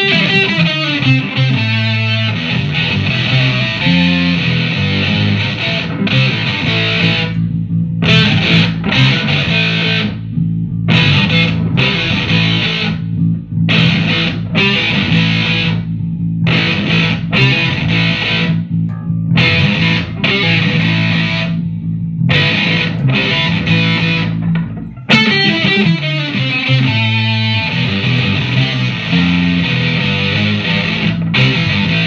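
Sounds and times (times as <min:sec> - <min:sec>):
distorted electric guitar riff: 0:00.0 - 0:32.0
electric bass guitar: 0:00.0 - 0:32.0.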